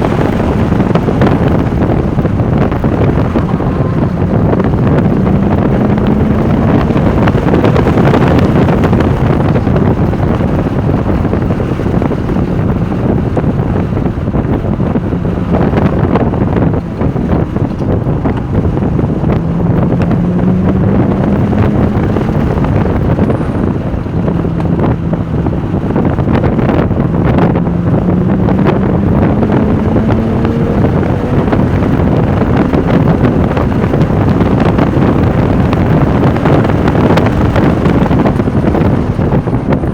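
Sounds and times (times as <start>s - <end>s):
sports car engine revving at speed: 0.0s - 39.9s
wind noise on microphone: 0.0s - 39.9s.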